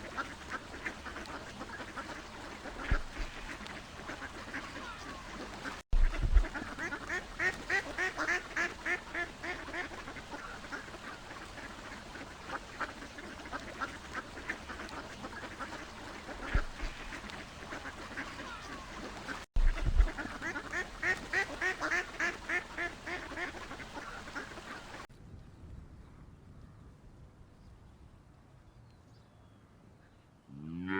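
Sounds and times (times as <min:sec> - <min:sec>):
ducks quacking: 0:00.0 - 0:25.1.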